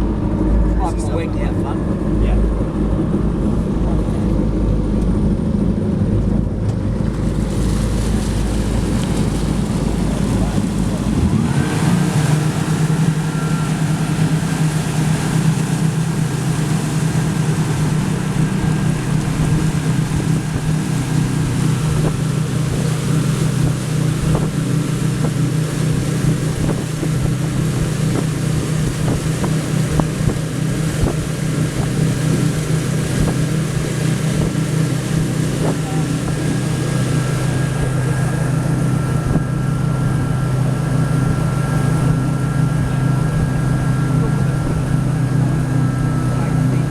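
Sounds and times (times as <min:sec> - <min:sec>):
motorboat engine drone: 0:00.0 - 0:46.9
wind buffeting microphone: 0:00.0 - 0:46.9.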